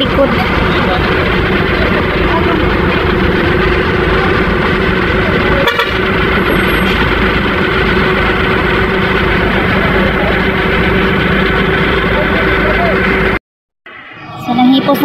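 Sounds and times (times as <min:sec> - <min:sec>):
diesel truck engine under load: 0:00.0 - 0:13.4.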